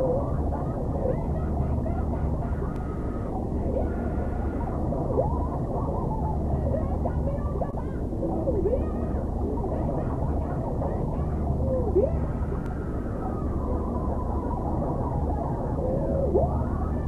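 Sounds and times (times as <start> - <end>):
deep steady rumble: 0.0 - 17.0
muffled warbling tones: 0.0 - 17.0.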